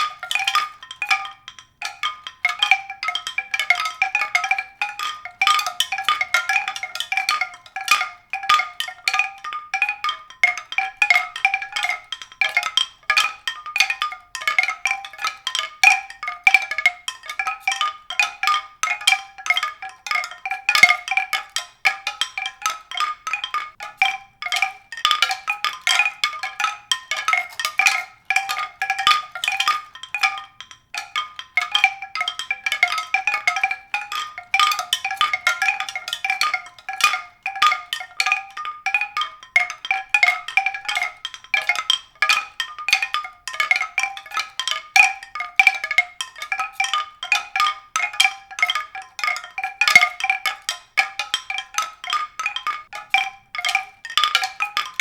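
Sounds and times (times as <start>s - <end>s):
rapid ringing struck notes: 0.0s - 55.0s.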